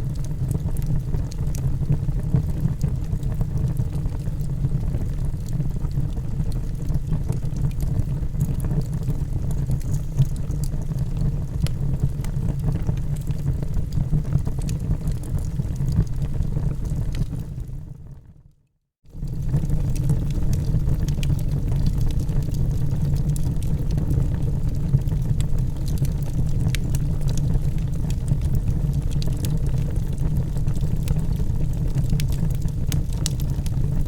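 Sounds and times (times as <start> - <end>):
fire flames rumbling: 0.0 - 18.2, 19.1 - 34.0
wood crackling and popping: 0.1 - 17.7, 19.2 - 34.0.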